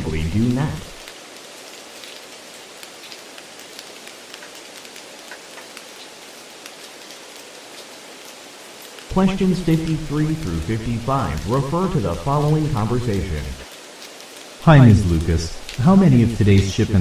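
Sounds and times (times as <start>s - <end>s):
rain-like hiss: 0.0s - 17.0s.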